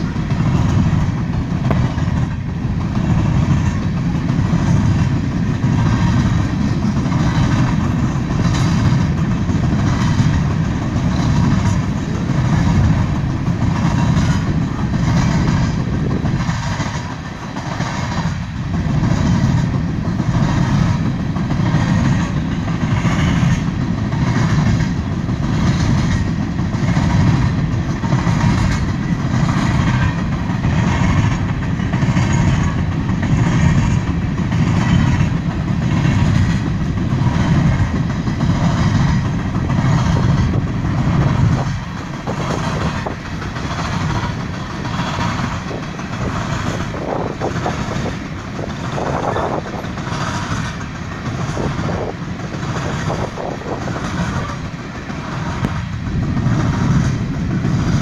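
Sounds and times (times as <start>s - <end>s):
freight train rumbling: 0.0s - 58.0s
wheels clacking over rail joints: 0.0s - 58.0s.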